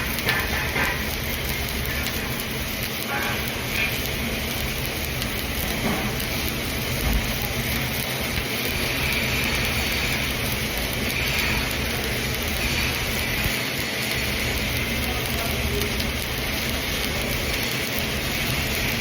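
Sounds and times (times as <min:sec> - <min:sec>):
low electrical hum: 0:00.0 - 0:19.0
welding arc crackling: 0:00.0 - 0:19.0.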